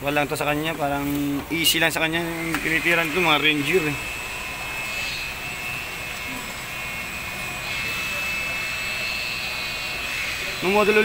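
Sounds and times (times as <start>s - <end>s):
thin high whine: 0.1s - 11.0s.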